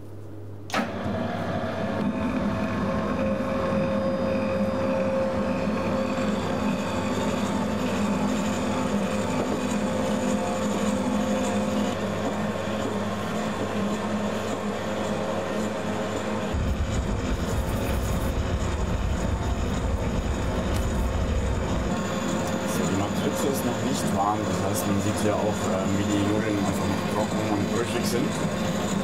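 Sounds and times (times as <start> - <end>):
motor humming: 0.6 - 29.0.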